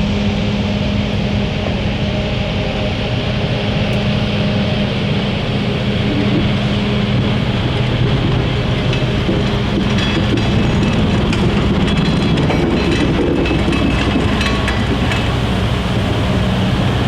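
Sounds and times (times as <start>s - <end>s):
diesel locomotive engine running: 0.0s - 17.0s.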